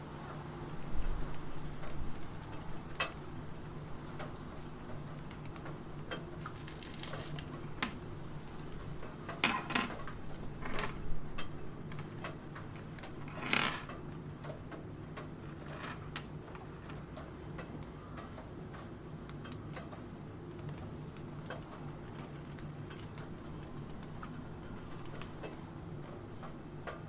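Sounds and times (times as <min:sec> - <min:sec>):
soft patter of rain: 0:00.0 - 0:27.0.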